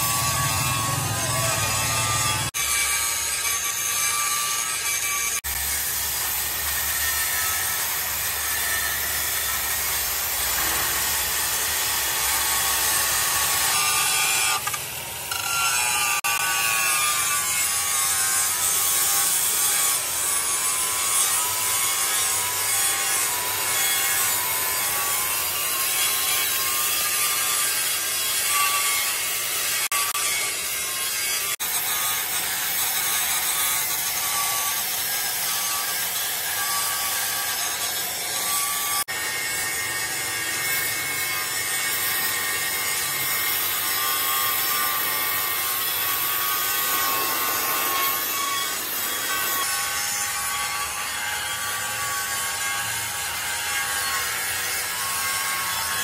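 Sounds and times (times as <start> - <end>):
power tool grinding metal: 0.0 - 56.0.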